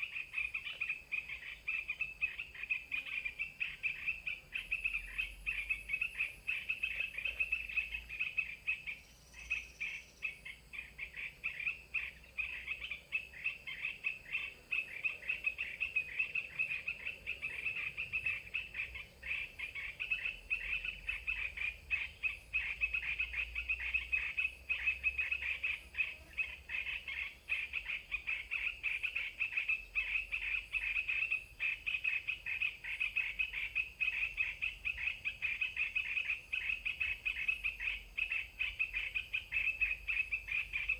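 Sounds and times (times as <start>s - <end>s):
rapid bird chattering: 0.0s - 40.9s.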